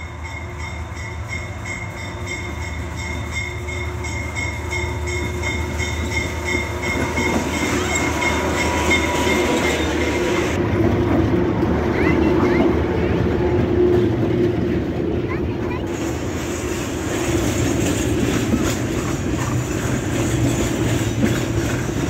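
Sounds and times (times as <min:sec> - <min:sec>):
locomotive engine rumble and whine: 0:00.0 - 0:22.0.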